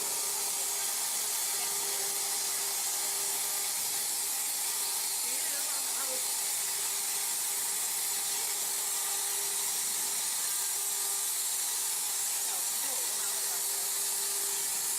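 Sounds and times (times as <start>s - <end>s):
plasma torch hissing: 0.0s - 14.9s.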